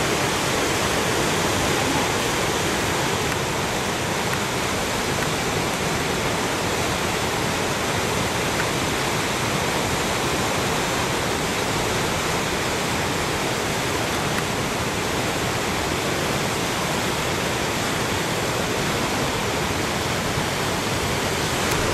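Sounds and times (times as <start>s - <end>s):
whitewater rapids roaring: 0.0s - 21.9s.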